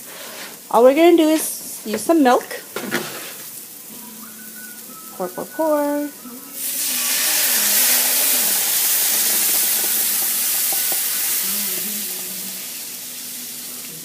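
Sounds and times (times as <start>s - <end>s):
milk sizzling in hot pan: 0.0s - 14.0s.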